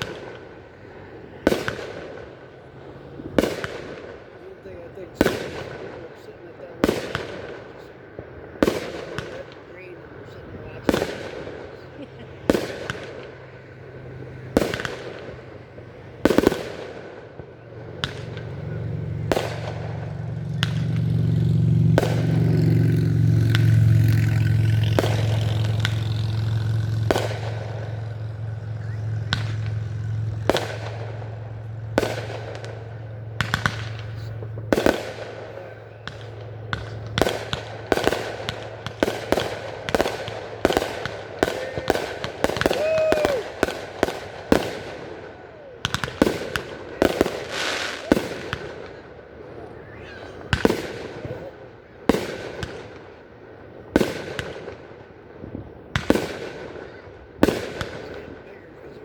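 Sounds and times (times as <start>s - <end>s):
low steady hum: 0.0s - 47.6s
fireworks bursting with sharp bangs: 0.0s - 59.0s.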